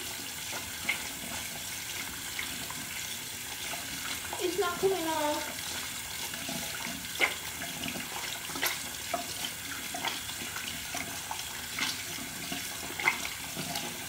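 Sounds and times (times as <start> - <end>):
tap running into a sink: 0.0 - 14.0
water splashes: 0.0 - 14.0.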